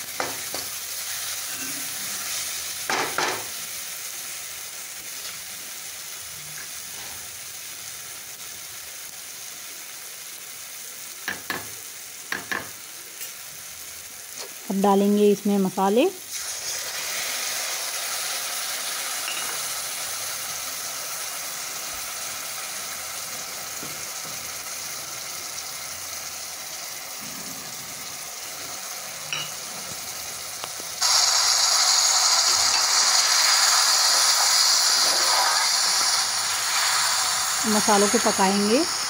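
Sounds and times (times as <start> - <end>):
spices sizzling in hot oil: 0.0 - 39.0.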